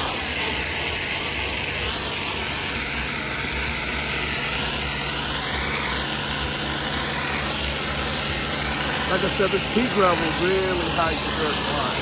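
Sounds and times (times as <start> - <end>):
pressure washer spray hissing: 0.0 - 12.0
washer engine humming: 0.0 - 12.0.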